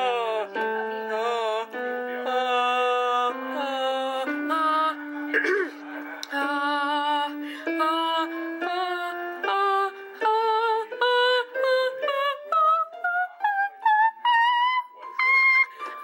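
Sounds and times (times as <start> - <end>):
woman singing a scale: 0.0 - 5.6, 6.3 - 16.0
electronic keyboard notes: 0.0 - 16.0.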